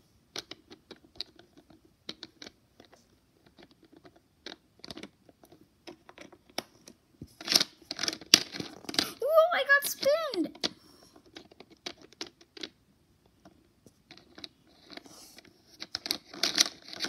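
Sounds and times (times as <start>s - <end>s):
plastic toys clicking: 0.3s - 9.2s, 9.9s - 12.8s, 13.4s - 17.0s.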